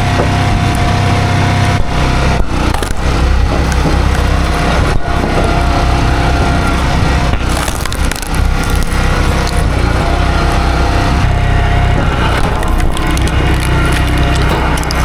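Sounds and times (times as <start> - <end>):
log splitter engine running: 0.0 - 15.0
wood cracking and splintering: 0.0 - 15.0.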